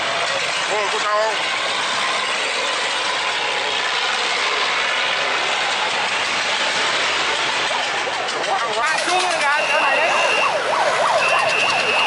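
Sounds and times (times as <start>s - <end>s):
boat engines running: 0.0s - 12.0s.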